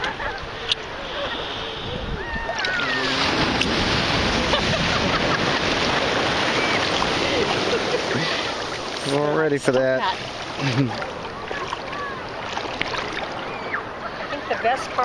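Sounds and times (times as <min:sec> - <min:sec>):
sea surf washing and splashing: 0:00.0 - 0:15.0.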